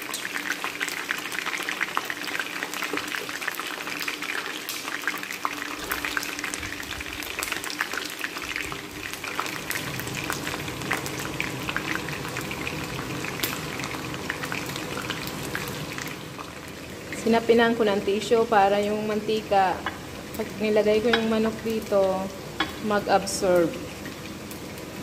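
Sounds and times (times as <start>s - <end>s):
chicken frying in hot oil: 0.0s - 25.0s.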